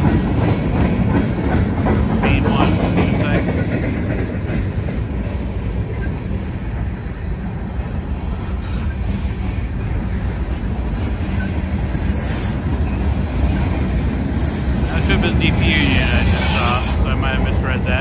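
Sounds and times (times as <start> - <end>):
freight train cars rolling past: 0.0 - 18.0.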